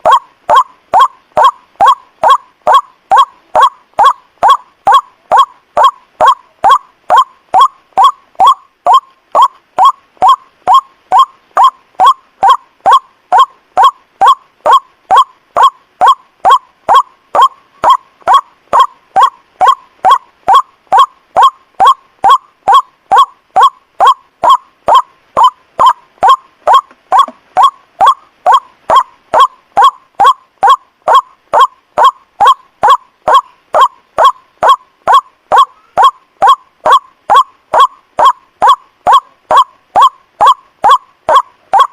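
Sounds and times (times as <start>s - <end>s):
waterhen calling: 0.0s - 41.9s.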